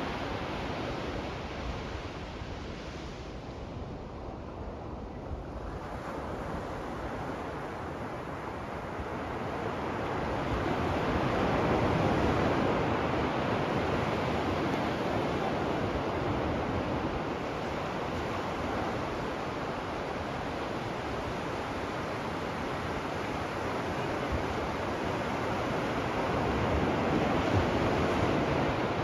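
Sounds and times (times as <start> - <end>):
ocean surf on beach: 0.0 - 29.0.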